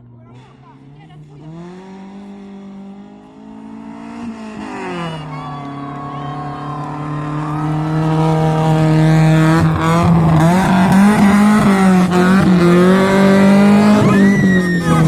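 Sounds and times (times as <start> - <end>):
rally car engine racing: 0.0 - 15.0.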